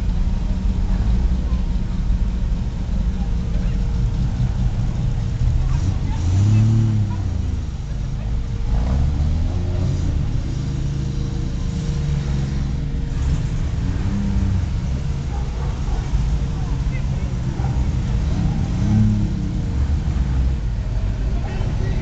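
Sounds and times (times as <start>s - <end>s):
car engine revving: 0.0s - 22.0s
car engines driving past: 0.0s - 22.0s.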